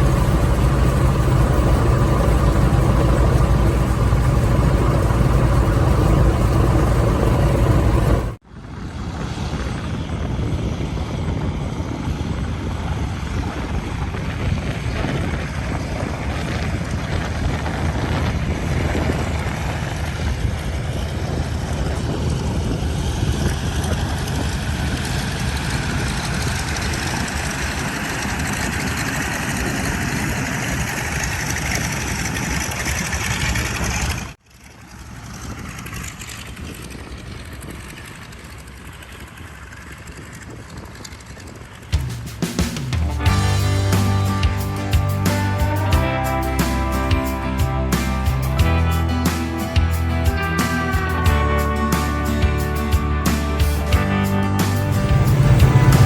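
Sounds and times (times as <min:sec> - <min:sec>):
propeller plane engines droning: 0:00.0 - 0:56.0.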